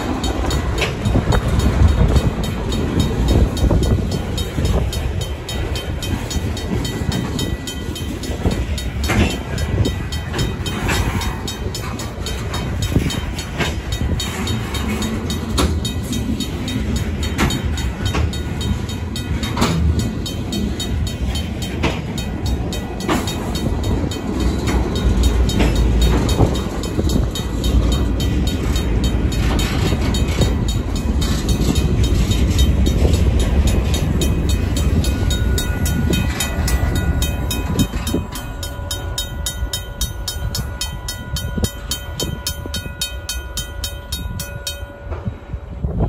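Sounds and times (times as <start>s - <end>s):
train wheel clicks: 0.0s - 45.3s
crossing bell ringing: 0.0s - 46.0s
freight cars rumbling: 0.0s - 46.0s.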